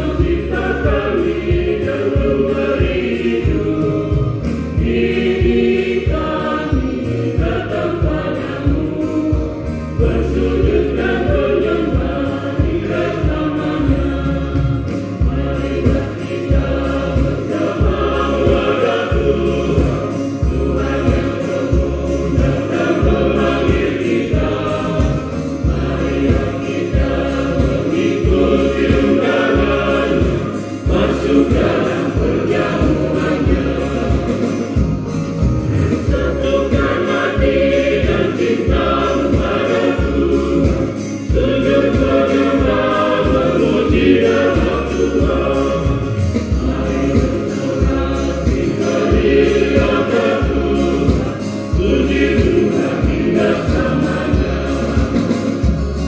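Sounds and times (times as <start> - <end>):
choir singing a hymn: 0.0 - 56.0
low accompanying beat: 0.0 - 56.0.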